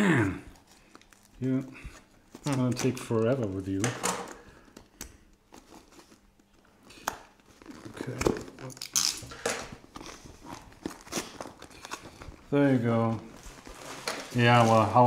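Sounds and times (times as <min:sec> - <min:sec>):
package rustling: 0:00.5 - 0:03.9, 0:05.4 - 0:15.0.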